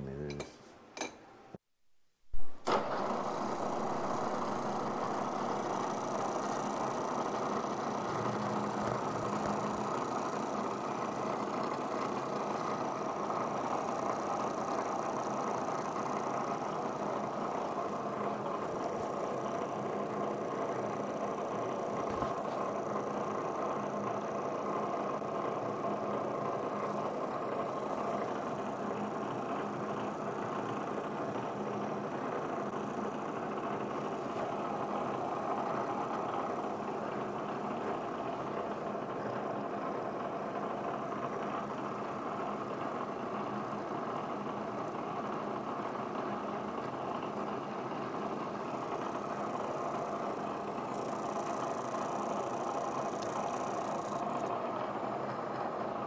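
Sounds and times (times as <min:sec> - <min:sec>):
milling machine running: 0:02.4 - 0:56.0.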